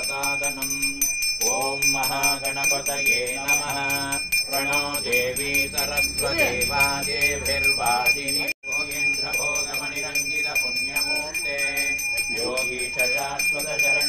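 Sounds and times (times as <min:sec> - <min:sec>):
hand bell ringing rapidly: 0:00.0 - 0:14.0
wavering melody: 0:00.0 - 0:14.0.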